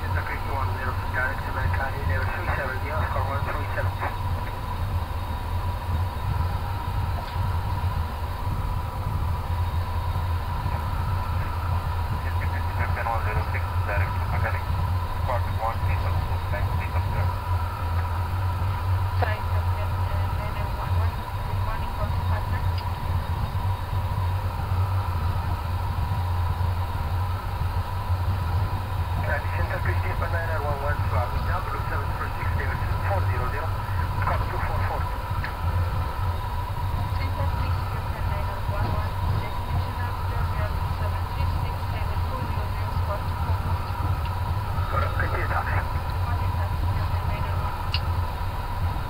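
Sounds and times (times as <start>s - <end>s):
aircraft engines idling rumble: 0.0s - 49.0s
thin steady whine: 0.0s - 49.0s.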